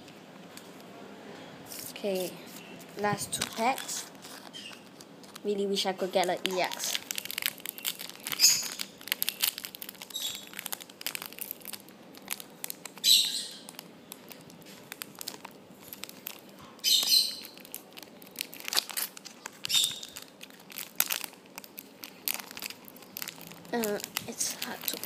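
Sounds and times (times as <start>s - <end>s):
foil pack crinkling: 1.7s - 25.0s
foil tearing crackles: 3.0s - 25.0s.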